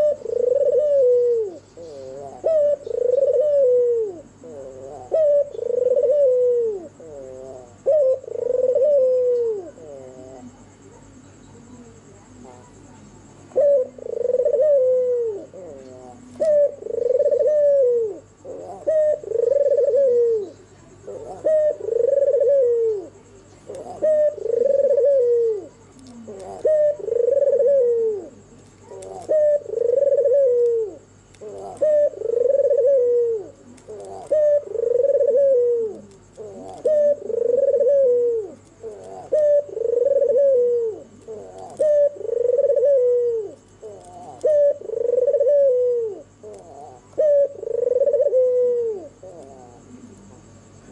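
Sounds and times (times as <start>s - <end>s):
dove cooing: 0.0s - 12.8s, 13.5s - 50.9s.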